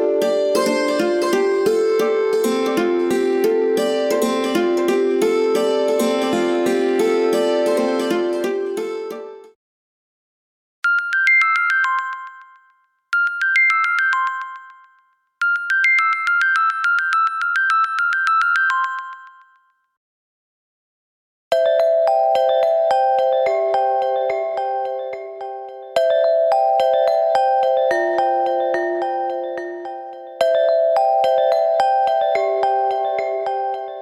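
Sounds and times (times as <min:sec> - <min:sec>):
ringtone melody: 0:00.0 - 0:09.5, 0:10.8 - 0:19.6, 0:21.6 - 0:34.0.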